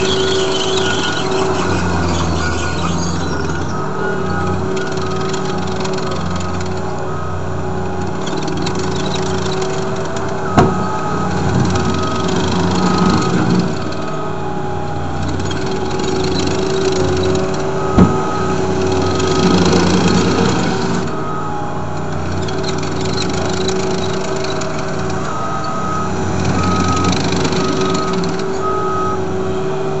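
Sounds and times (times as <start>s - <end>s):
backup alarm beeping: 0.0s - 29.8s
diesel engine running under load: 0.0s - 30.0s.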